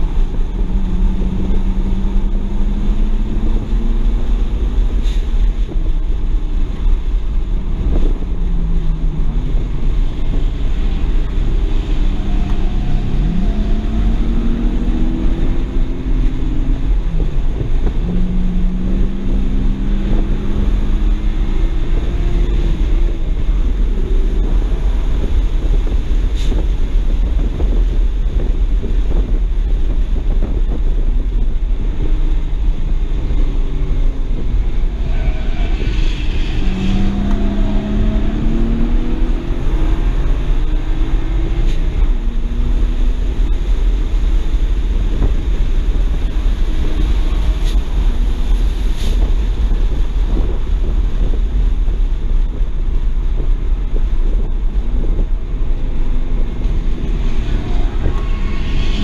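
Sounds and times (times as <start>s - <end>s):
car engine revving: 0.0s - 59.0s
road rumble: 0.0s - 59.0s
wind noise: 0.0s - 59.0s.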